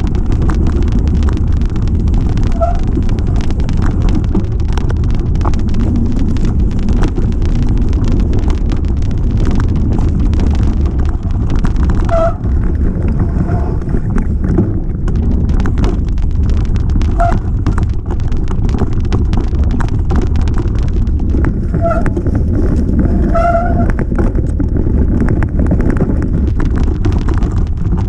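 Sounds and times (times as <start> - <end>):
bike rattling and knocking: 0.0 - 28.0
wind rumble on microphone: 0.0 - 28.0.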